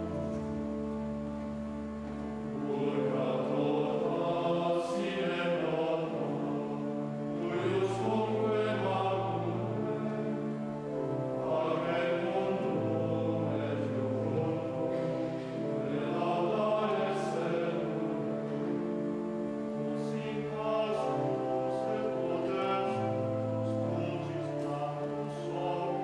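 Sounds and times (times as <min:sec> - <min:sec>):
pipe organ low notes: 0:00.0 - 0:26.0
men's choir chanting: 0:02.0 - 0:26.0.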